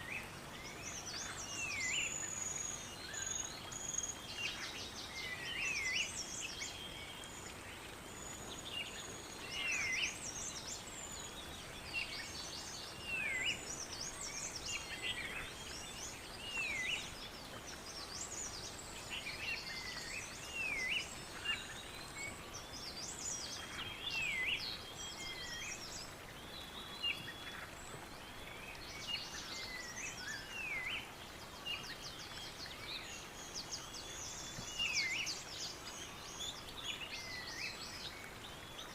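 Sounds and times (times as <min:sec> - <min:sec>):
soft steady hiss: 0:00.0 - 0:38.9.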